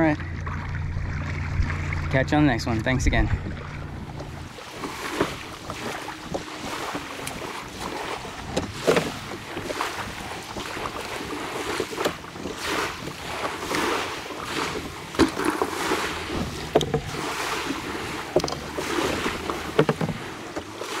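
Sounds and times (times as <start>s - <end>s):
water slapping against kayak hull: 0.0s - 21.0s
wind on microphone: 0.4s - 21.0s.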